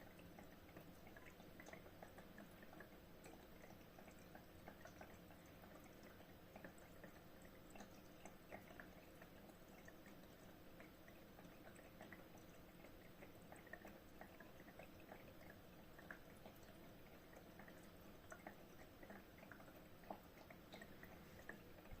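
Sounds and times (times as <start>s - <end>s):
faint water drips and ticks: 0.0s - 22.0s
low steady hum: 0.0s - 22.0s.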